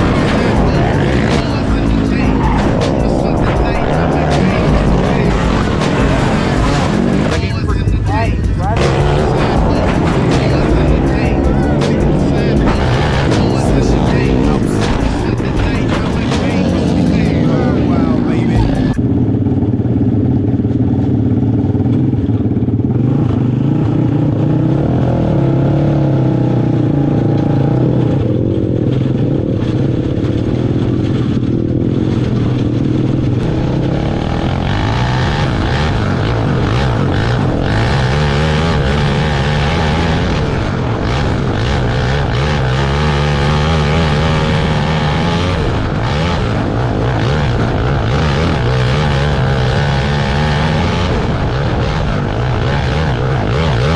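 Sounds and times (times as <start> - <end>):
kart engines revving: 0.0 - 53.9.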